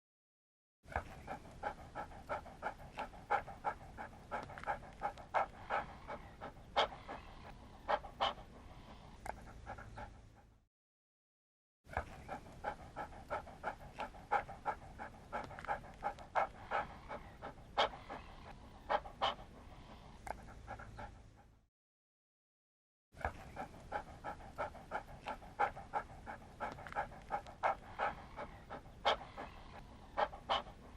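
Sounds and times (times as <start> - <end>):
dog panting: 0.9 - 10.6, 11.9 - 21.6, 23.2 - 30.9.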